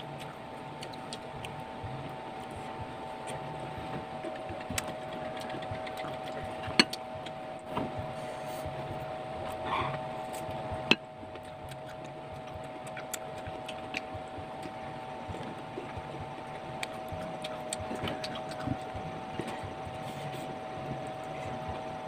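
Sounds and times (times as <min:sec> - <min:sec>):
biting and chewing mango: 0:00.0 - 0:08.0, 0:09.0 - 0:22.0.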